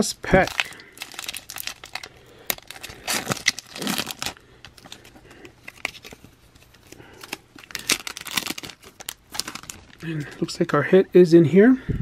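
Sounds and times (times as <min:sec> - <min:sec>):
card pack wrapper tearing: 0:00.0 - 0:10.5
wrapper crinkling: 0:00.0 - 0:10.6.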